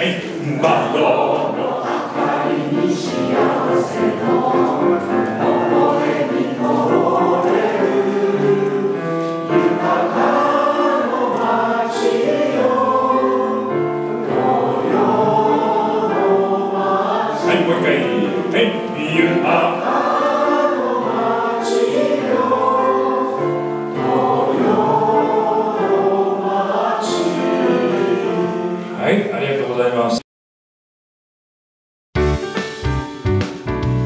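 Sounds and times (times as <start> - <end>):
crowd singing in chorus: 0.0 - 29.0
piano accompaniment: 0.0 - 30.2, 32.2 - 34.0.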